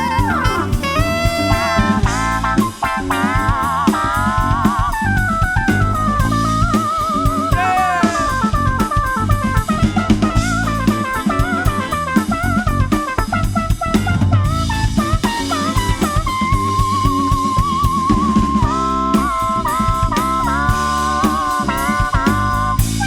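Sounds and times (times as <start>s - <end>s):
bass line: 0.0s - 23.0s
drum kit: 0.0s - 23.0s
lead instrument bending notes: 0.0s - 23.0s.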